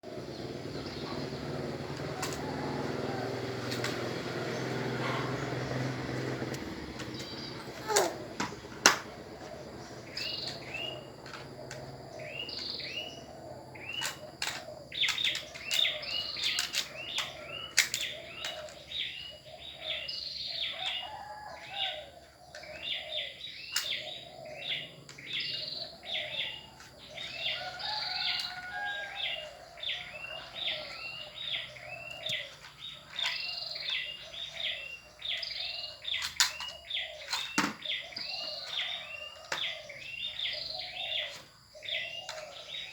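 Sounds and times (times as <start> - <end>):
small bird chirping: 0.0 - 42.9.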